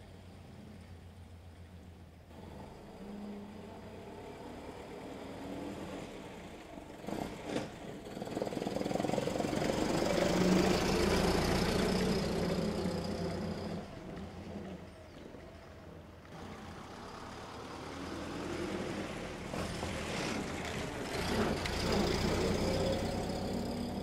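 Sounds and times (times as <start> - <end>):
car engine driving by: 2.3 - 24.0.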